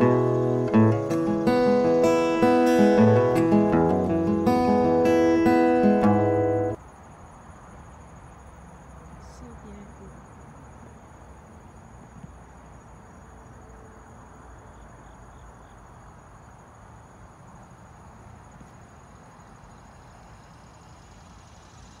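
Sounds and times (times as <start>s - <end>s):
high insect trill: 0.0s - 22.0s.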